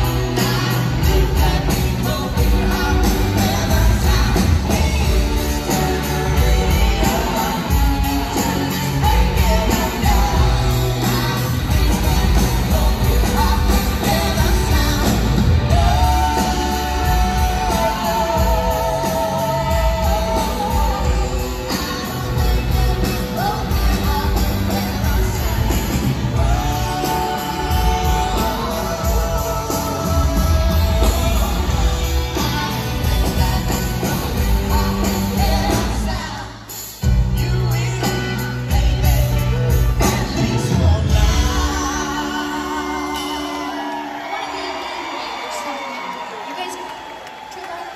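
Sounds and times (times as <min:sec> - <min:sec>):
man and woman singing: 0:00.0 - 0:45.6
electric guitar: 0:00.0 - 0:46.5
live pop-rock band playing: 0:00.0 - 0:47.8
drums: 0:00.0 - 0:47.9.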